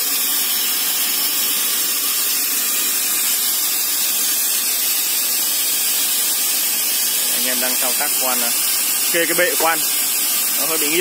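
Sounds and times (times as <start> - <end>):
pneumatic rock drill hissing: 0.0 - 11.0.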